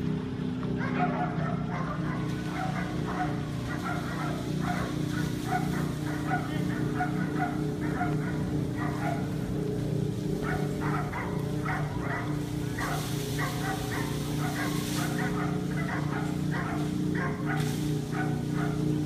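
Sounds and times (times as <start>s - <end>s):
low engine drone: 0.0s - 19.0s
dog barking: 0.8s - 9.4s, 10.2s - 19.0s.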